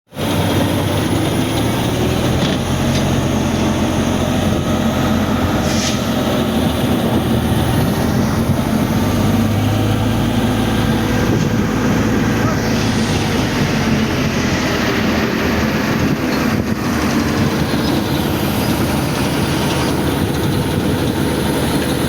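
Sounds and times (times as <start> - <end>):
heavy pump engine humming: 0.1 - 22.0.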